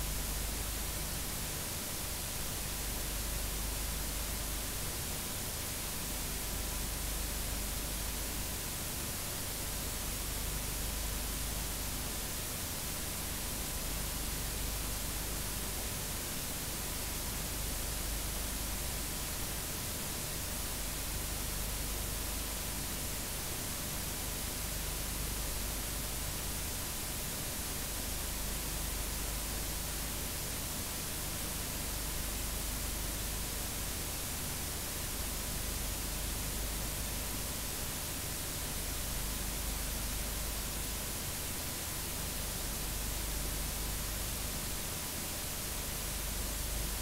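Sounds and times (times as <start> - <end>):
tape static hiss: 0.0 - 47.0.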